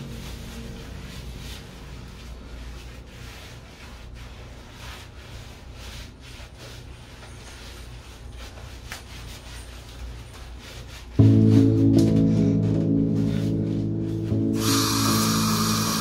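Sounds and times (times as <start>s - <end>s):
gloves scrubbing lathered skin: 0.0s - 12.0s, 13.2s - 16.0s.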